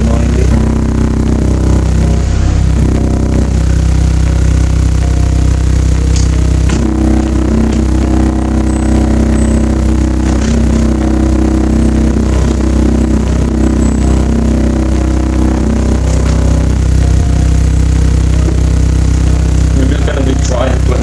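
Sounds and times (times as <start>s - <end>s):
speaker box rattling and buzzing: 0.0s - 21.0s
subwoofer low test tone: 0.0s - 21.0s.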